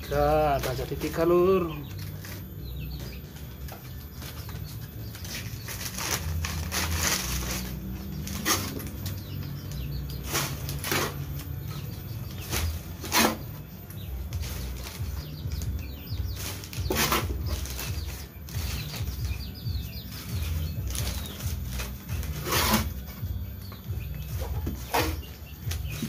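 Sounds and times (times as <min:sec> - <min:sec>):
planting mix rustling scrapes: 0:00.0 - 0:03.2, 0:03.8 - 0:26.0.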